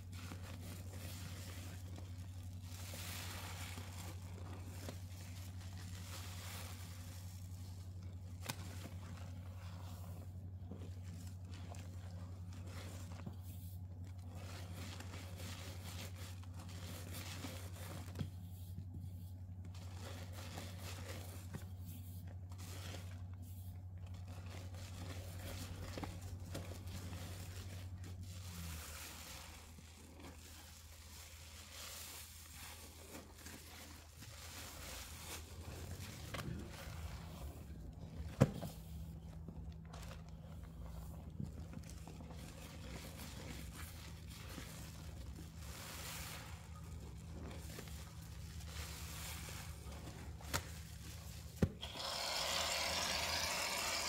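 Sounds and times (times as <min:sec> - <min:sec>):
soapy sponge squishing: 0:00.0 - 0:54.0
steady low hum: 0:00.0 - 0:54.0.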